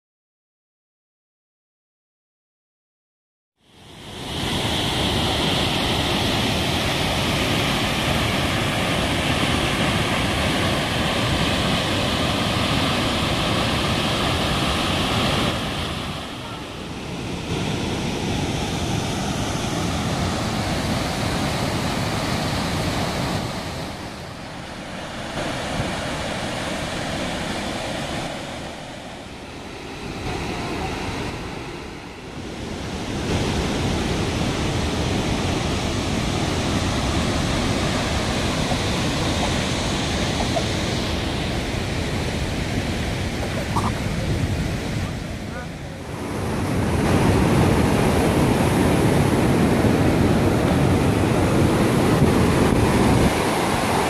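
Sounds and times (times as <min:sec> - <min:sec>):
waterfall rushing: 0:04.0 - 0:31.6, 0:32.2 - 0:54.0.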